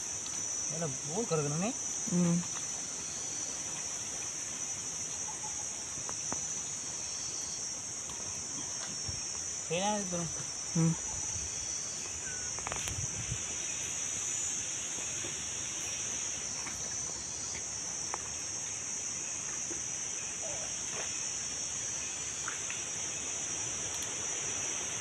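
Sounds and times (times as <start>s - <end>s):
insects droning: 0.0s - 25.0s
stream hissing: 0.0s - 25.0s.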